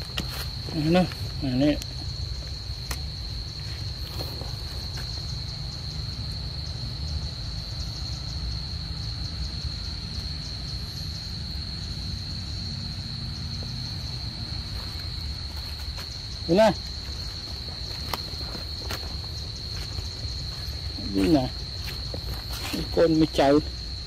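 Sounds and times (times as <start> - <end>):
insects high-pitched drone: 0.0 - 24.0.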